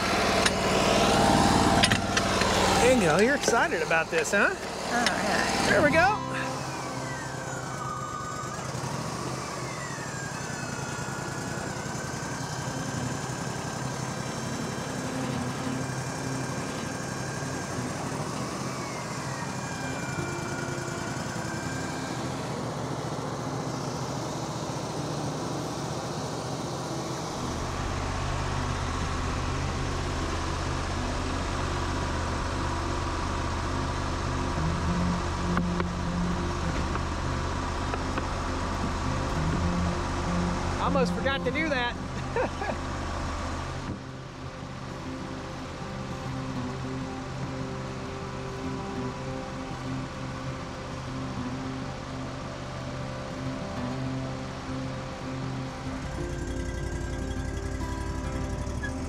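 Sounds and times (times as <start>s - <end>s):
hydraulic whine: 0.0s - 59.0s
sawmill engine running: 0.0s - 59.0s.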